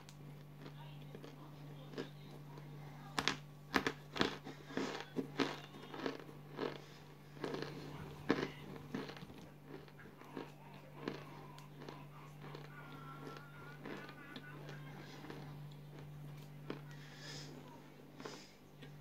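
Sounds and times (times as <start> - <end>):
crunchy chewing: 0.0 - 19.0
steady low hum: 0.0 - 19.0.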